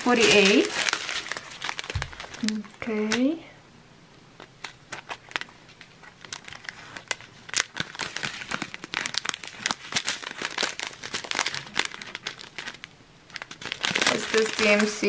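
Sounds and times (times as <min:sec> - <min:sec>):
plastic bags crinkling: 0:00.0 - 0:03.2, 0:04.6 - 0:15.0.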